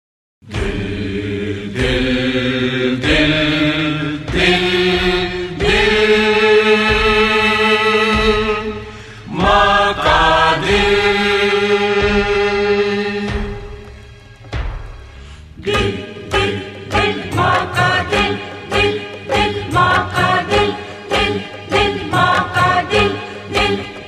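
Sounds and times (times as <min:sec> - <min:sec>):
devotional chanting: 0:00.4 - 0:14.1, 0:15.6 - 0:24.0.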